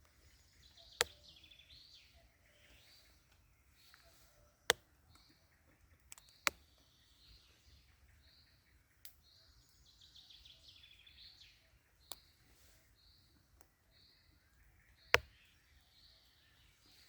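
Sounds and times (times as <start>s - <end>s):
songbirds warbling chirps: 0.0s - 17.0s.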